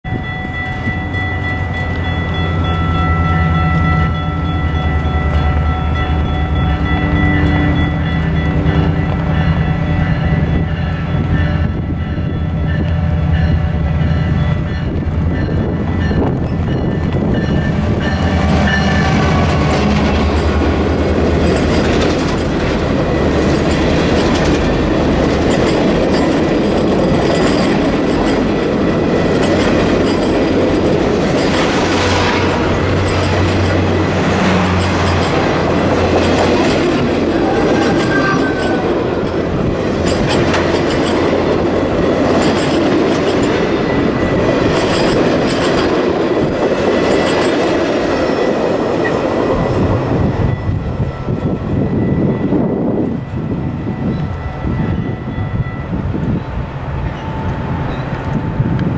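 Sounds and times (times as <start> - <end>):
diesel locomotive engines passing: 0.0 - 58.9
train wheels on rails: 0.0 - 58.9.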